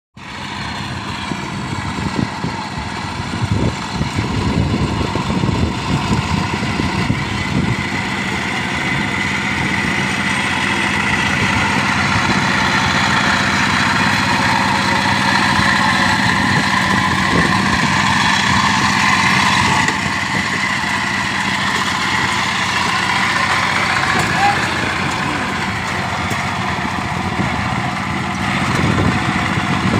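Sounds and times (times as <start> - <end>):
tractor engine running: 0.2 - 29.9.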